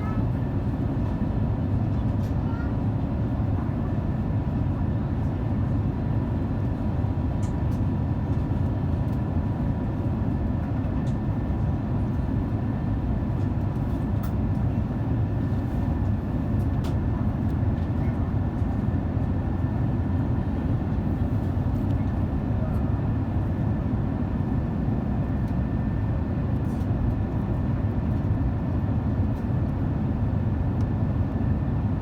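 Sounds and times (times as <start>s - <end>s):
aircraft cabin rumble: 0.0s - 28.5s.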